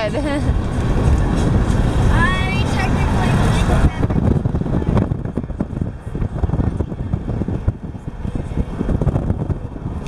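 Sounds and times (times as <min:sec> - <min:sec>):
car road noise: 0:00.0 - 0:10.0
wind buffeting microphone: 0:00.0 - 0:10.0.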